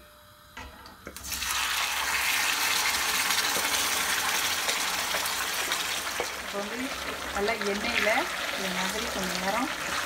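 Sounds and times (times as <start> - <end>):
curry poured into sizzling oil: 1.2 - 10.0.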